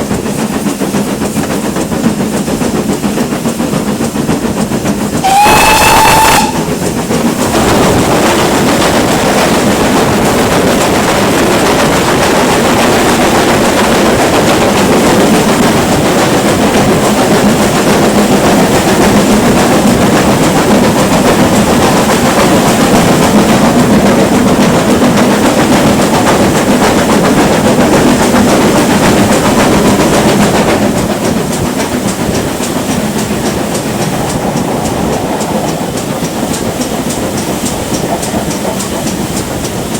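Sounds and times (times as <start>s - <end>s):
steam train running: 0.0s - 39.9s.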